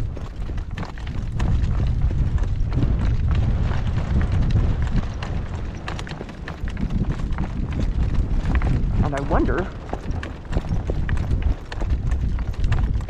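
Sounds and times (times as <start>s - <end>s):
horse hooves clopping: 0.0s - 13.0s
wind buffeting microphone: 0.0s - 13.0s.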